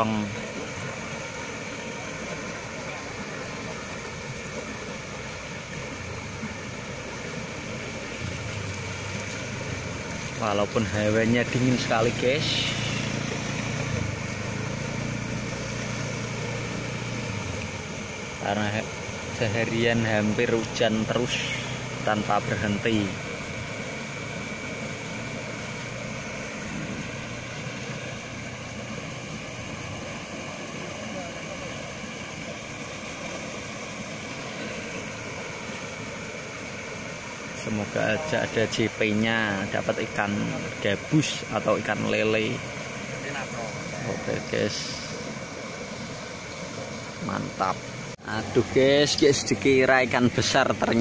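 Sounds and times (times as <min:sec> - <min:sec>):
low hum: 0:00.0 - 0:51.0
river water rushing: 0:00.0 - 0:51.0.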